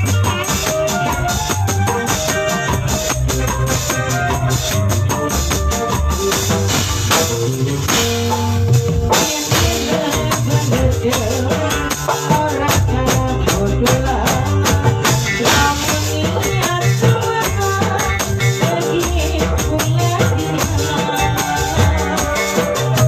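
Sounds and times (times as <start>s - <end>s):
drums beating: 0.0s - 23.0s
melodic instrumental backing: 0.0s - 23.0s.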